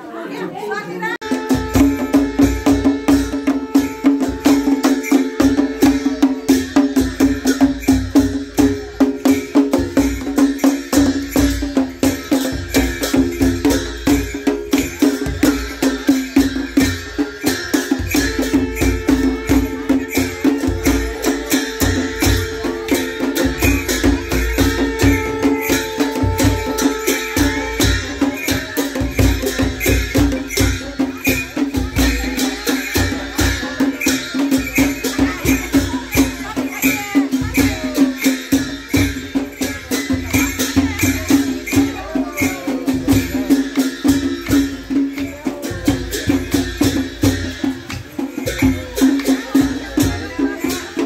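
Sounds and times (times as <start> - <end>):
drum beaten with stick: 1.2 - 51.0.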